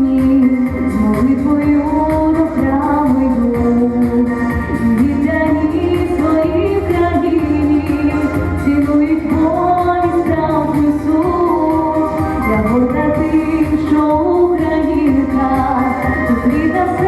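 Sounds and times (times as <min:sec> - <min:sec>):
instrumental backing with bass: 0:00.0 - 0:17.0
women singing a pop song: 0:00.0 - 0:17.0.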